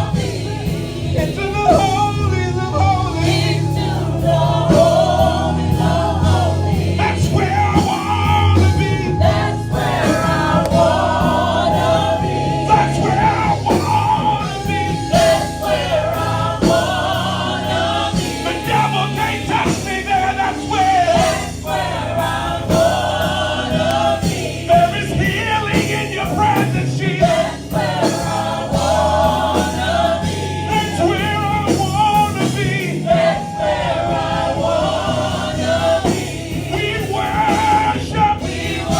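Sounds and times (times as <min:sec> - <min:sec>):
instrumental accompaniment: 0:00.0 - 0:38.9
voices singing gospel music: 0:00.0 - 0:38.9.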